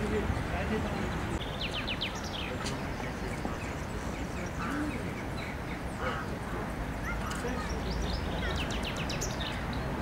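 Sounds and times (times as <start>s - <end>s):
low background noise: 0.0s - 10.0s
small songbird chirping: 0.9s - 9.9s.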